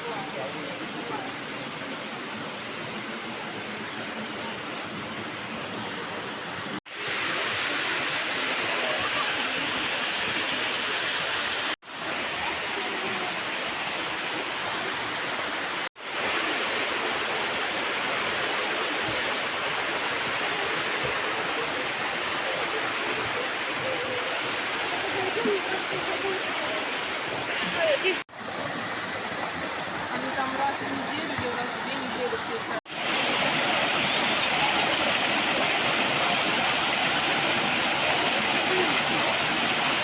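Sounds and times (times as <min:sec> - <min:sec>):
water tumbling down creek: 0:00.0 - 0:40.0.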